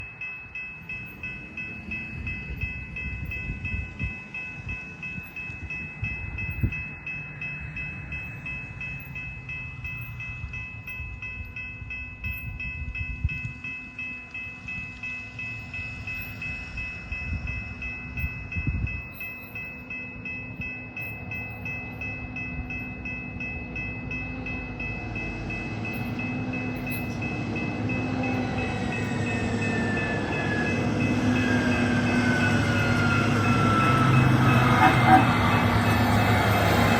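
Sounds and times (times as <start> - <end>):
rail vehicle rumble: 0.0 - 36.9
steady high tone: 0.0 - 36.9.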